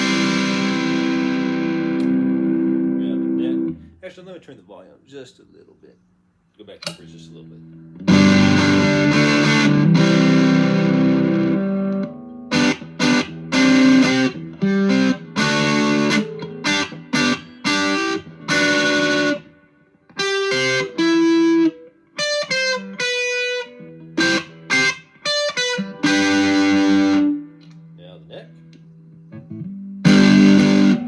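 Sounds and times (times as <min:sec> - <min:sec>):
distorted electric guitar chords: 0:00.0 - 0:03.9, 0:06.9 - 0:31.0
electric guitar lead line: 0:00.0 - 0:03.9, 0:06.9 - 0:31.0.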